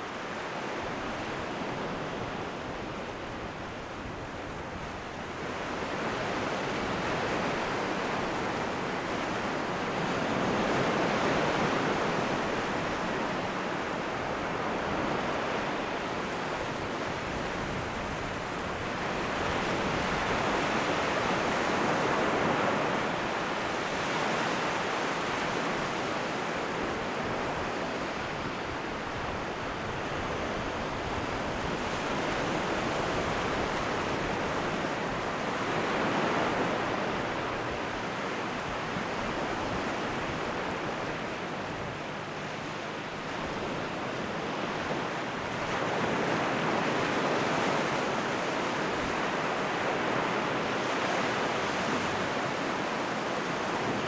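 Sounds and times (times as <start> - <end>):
waves washing up a beach: 0.0 - 54.0.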